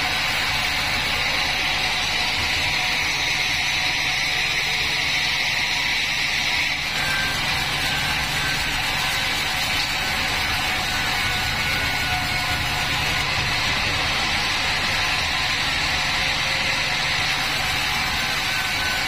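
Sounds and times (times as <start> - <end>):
band saw whining: 0.0 - 19.0.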